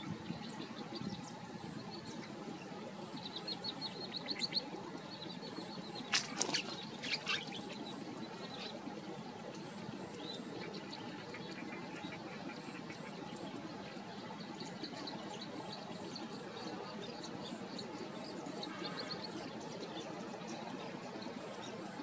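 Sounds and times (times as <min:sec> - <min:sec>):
low background hiss: 0:00.0 - 0:22.0
small birds chirping: 0:00.0 - 0:22.0.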